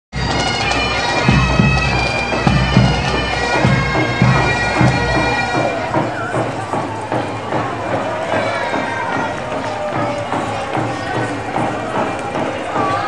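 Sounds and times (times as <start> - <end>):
deep drum beating: 0.2 - 13.0
reed pipe music: 0.2 - 13.0.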